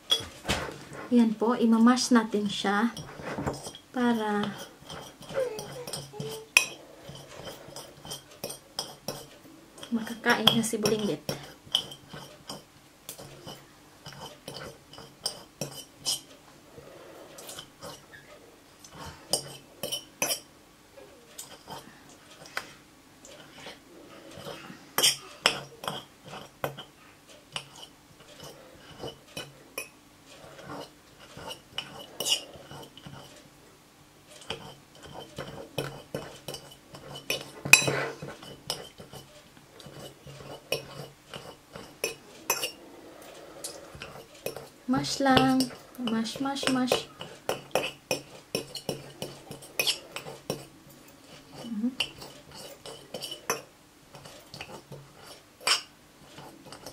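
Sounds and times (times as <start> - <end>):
fork scraping ceramic bowl: 2.9 - 20.5, 21.4 - 22.6, 23.2 - 26.9, 27.5 - 33.4, 34.3 - 56.9.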